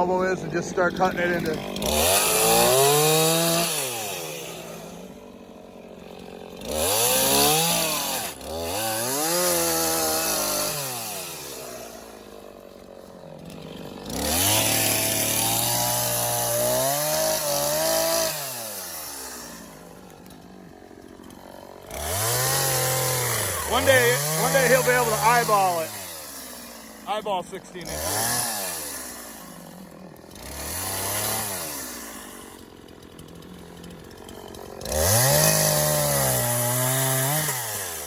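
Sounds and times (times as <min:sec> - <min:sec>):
chainsaw cutting log: 0:00.0 - 0:38.0.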